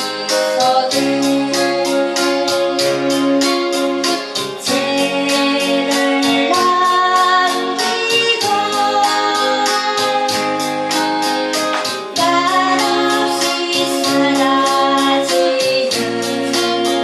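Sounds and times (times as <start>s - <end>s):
instrumental accompaniment with beat: 0.0s - 17.0s
person singing: 0.0s - 17.0s.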